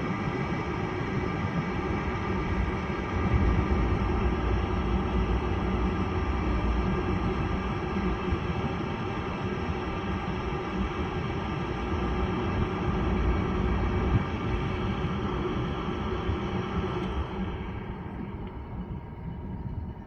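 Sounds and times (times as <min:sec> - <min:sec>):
furnace motor humming: 0:00.0 - 0:20.0.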